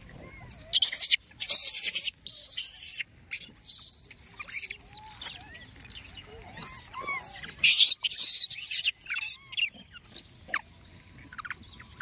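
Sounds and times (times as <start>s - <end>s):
monkeys squeaking and chirping: 0.1s - 12.0s.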